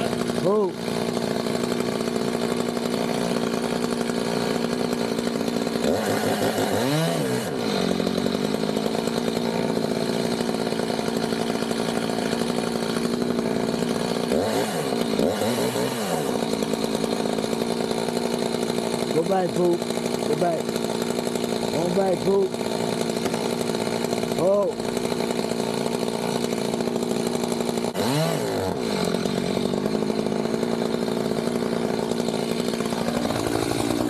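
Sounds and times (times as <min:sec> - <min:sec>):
chainsaw running at high revs: 0:00.0 - 0:34.0.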